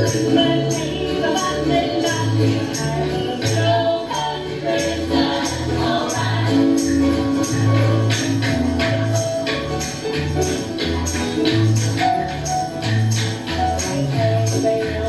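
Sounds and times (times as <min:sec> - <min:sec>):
bouncing bass line: 0:00.0 - 0:15.0
live country music: 0:00.0 - 0:15.0
tambourine shaking: 0:00.0 - 0:15.0.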